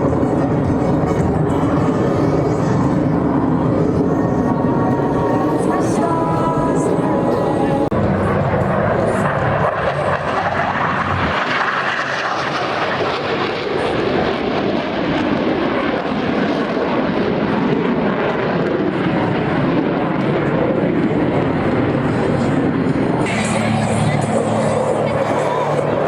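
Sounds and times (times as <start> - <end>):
jet engines flying over: 0.0 - 26.0.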